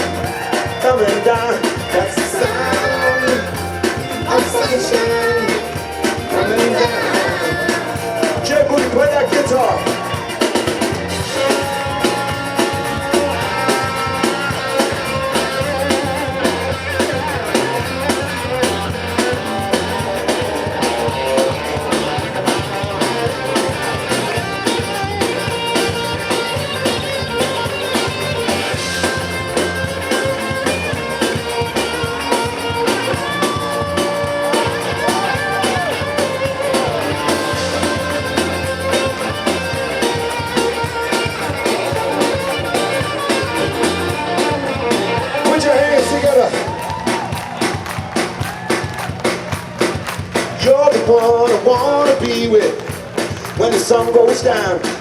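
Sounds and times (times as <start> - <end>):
electric guitar solo: 0.0 - 47.8
bass and drums: 0.0 - 55.0.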